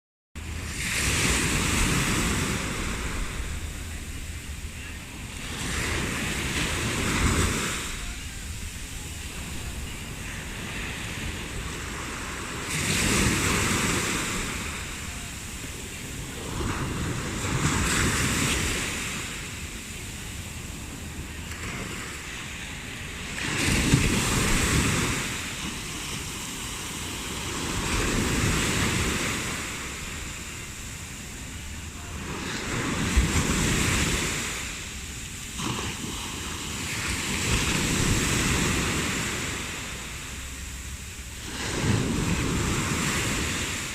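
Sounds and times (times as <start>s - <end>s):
sea waves washing on shore: 0.4s - 43.9s
wind on microphone: 0.4s - 43.9s.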